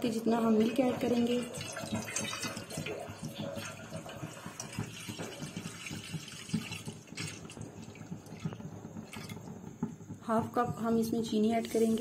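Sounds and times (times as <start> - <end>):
milk pouring into metal pot: 0.0 - 9.8.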